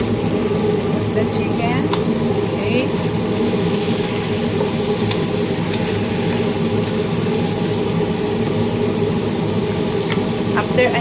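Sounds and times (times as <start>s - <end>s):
chicken sizzling in a pot: 0.0s - 11.0s
steady mechanical hum: 0.0s - 11.0s.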